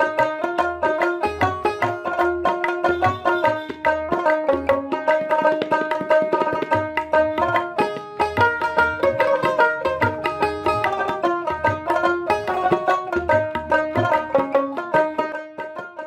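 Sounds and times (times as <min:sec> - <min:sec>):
hand drum rhythm: 0:00.0 - 0:16.0
plucked string melody: 0:00.0 - 0:16.0.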